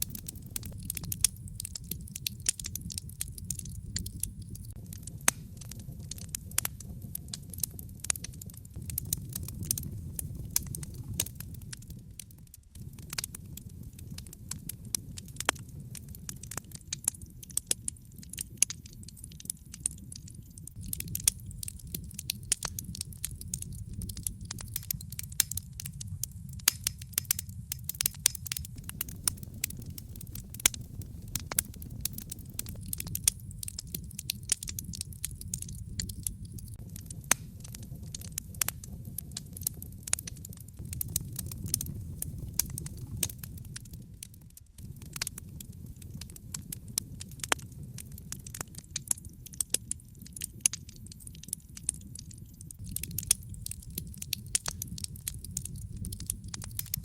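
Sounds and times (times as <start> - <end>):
sharp pops of fire: 0.0 - 57.0
wood fire rumbling and crackling: 0.0 - 57.0.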